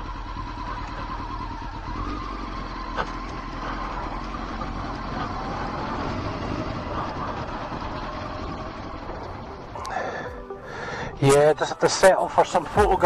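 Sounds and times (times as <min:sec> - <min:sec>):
motorcycle engine running: 0:00.0 - 0:10.5, 0:11.6 - 0:13.0.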